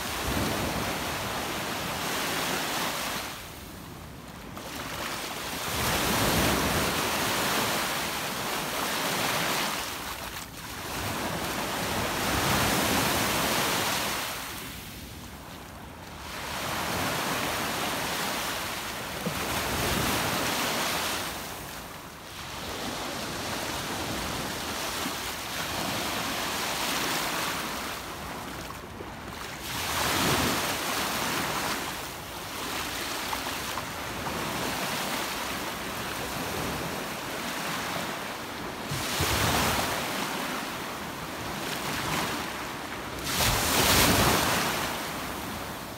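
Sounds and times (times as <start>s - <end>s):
waves breaking on sandy shore: 0.0s - 45.9s.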